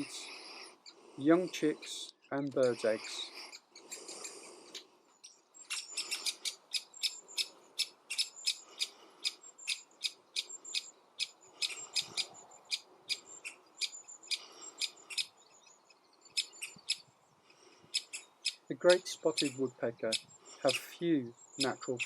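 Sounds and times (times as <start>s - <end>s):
woodpecker sharp kik calls: 0.0s - 22.0s.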